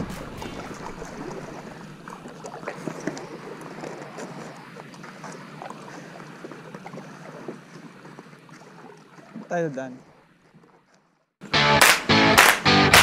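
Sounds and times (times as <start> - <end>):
small splashes: 0.0 - 11.3
paddle strokes through water: 0.0 - 11.4
water lapping against hull: 0.0 - 11.4.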